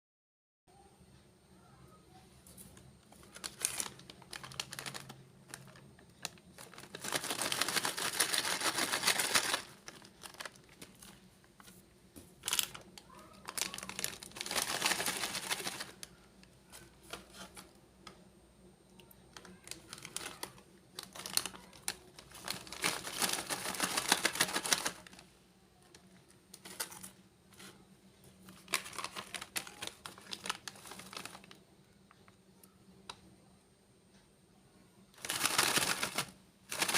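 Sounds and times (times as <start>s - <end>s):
plastic snack packets crinkling: 2.5s - 18.1s, 19.0s - 32.3s, 35.2s - 36.9s.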